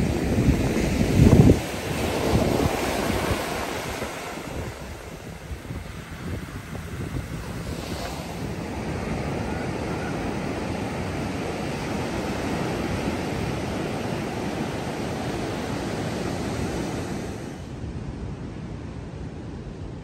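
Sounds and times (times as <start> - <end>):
ocean surf breaking: 0.0 - 17.8.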